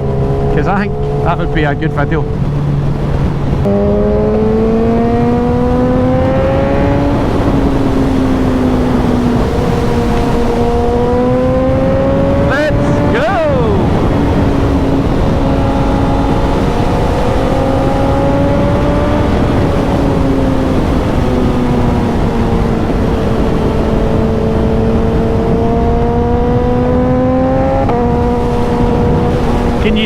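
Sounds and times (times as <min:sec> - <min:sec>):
motorcycle engine accelerating: 0:00.0 - 0:30.0
wind rush: 0:00.0 - 0:30.0.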